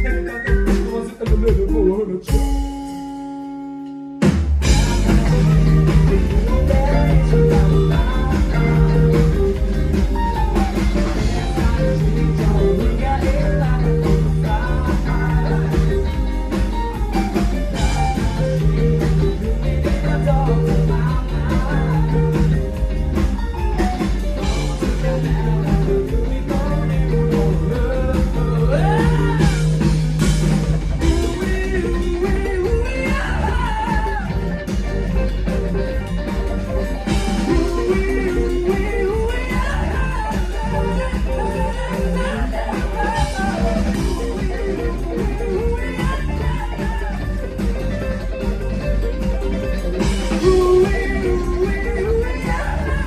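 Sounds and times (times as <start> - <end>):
live rock band playing: 0.0 - 53.0
person singing: 4.6 - 53.0.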